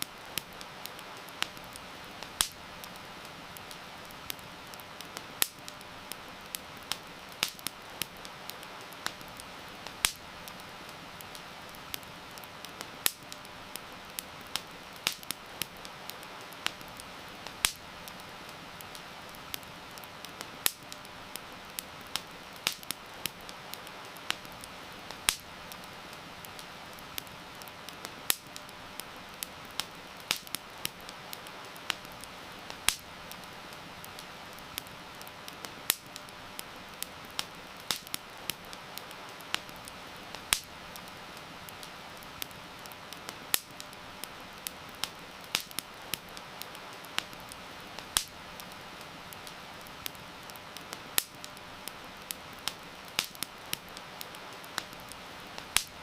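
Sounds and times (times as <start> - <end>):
campfire crackling and popping: 0.0 - 56.0
rain hissing: 0.0 - 56.0.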